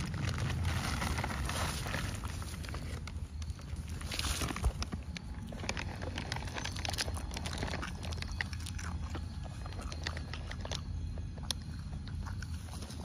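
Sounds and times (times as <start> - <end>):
low steady rumble: 0.0 - 13.0
monkey chewing food: 2.1 - 13.0.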